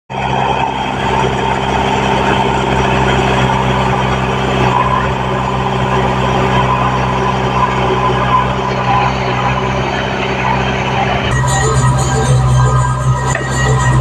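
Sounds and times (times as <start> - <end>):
diesel engines running: 0.1 - 14.0.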